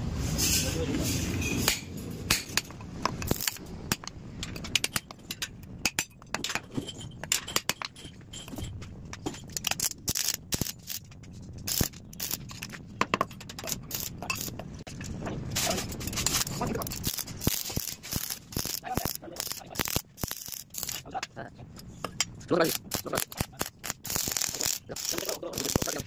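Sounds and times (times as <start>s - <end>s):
metal parts clinking on concrete: 1.4s - 26.0s.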